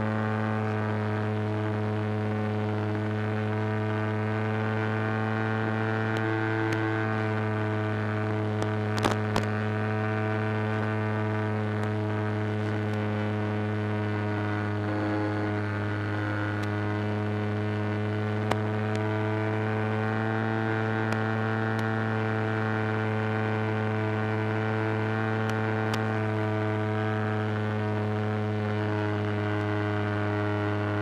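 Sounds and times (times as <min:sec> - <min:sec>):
steady low motor hum: 0:00.0 - 0:31.0.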